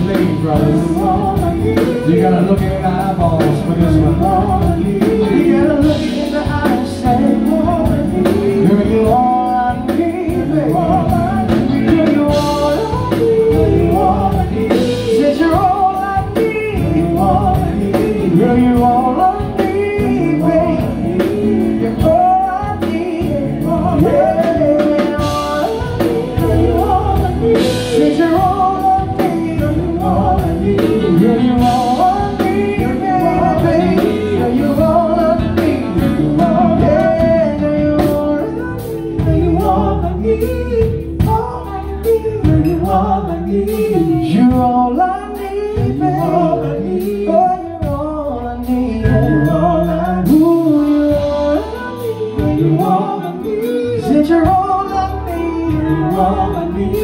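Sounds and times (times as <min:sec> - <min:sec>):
drums: 0:00.0 - 0:57.0
electric guitar: 0:00.0 - 0:57.0
men singing in harmony: 0:00.0 - 0:57.0.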